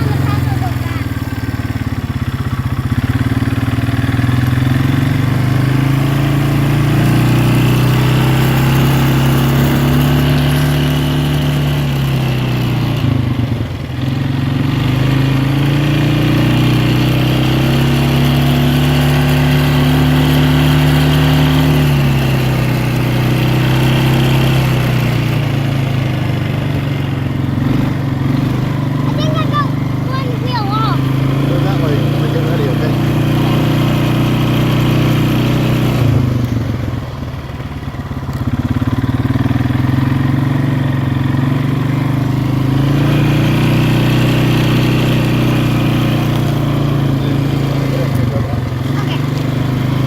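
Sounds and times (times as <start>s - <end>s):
atv engine running: 0.0s - 50.0s.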